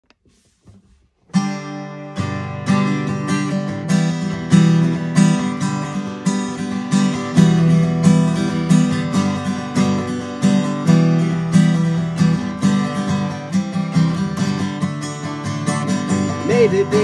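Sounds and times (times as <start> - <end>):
acoustic guitar strummed: 1.3 - 17.0.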